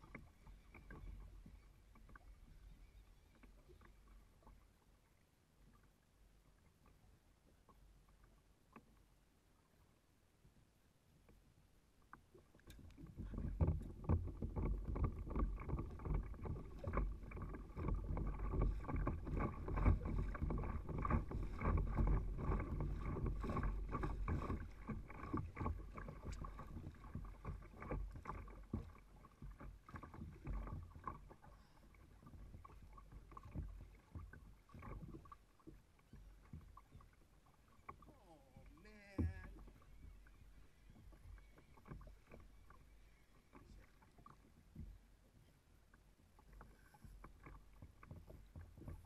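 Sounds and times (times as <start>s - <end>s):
water splashing against kayak hull: 0.0s - 49.0s.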